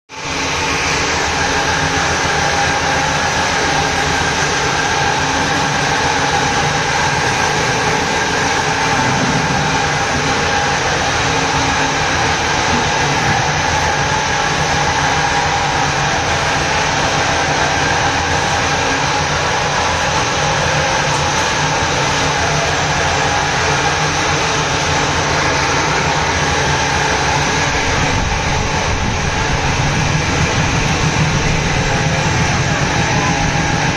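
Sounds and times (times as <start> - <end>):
engine running: 0.1 - 33.9.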